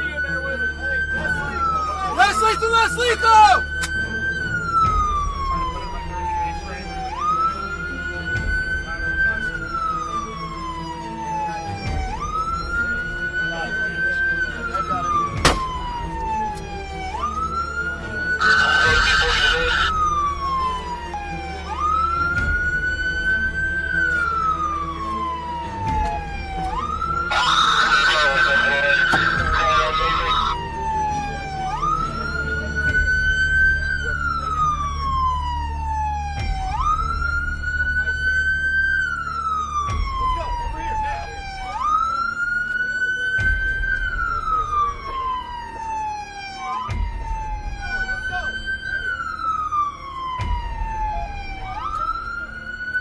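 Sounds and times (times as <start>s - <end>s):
police siren wailing: 0.0s - 53.0s.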